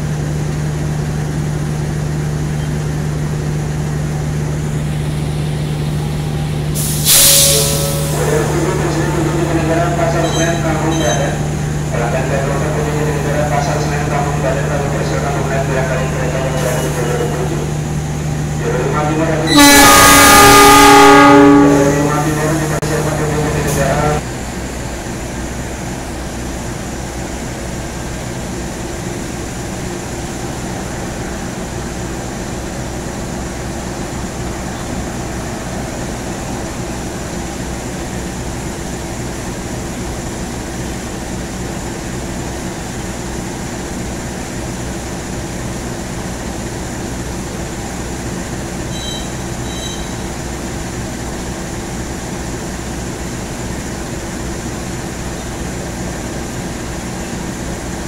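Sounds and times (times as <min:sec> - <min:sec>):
locomotive engine idling: 0:00.0 - 0:58.0.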